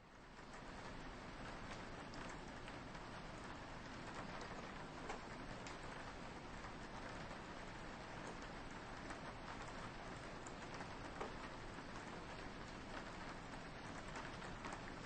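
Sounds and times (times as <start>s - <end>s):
soft steady rain: 0.0s - 15.0s.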